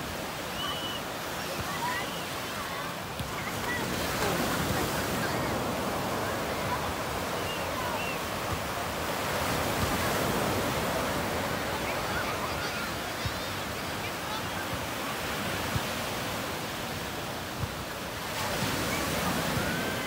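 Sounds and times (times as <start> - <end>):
surf washing up beach: 0.0 - 20.0
distant crowd voices: 0.4 - 20.0.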